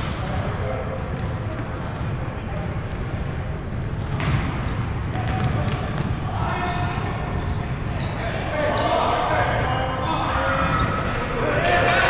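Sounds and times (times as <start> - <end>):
sneakers squeaking: 0.0 - 11.4.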